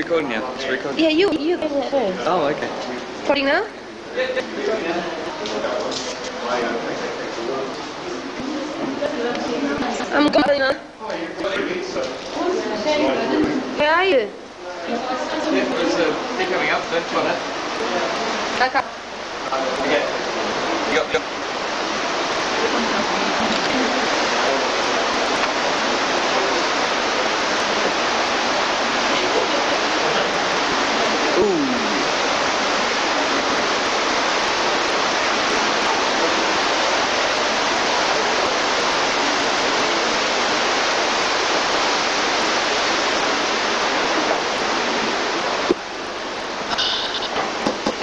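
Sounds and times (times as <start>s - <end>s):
rush of flowing water: 0.0s - 48.0s.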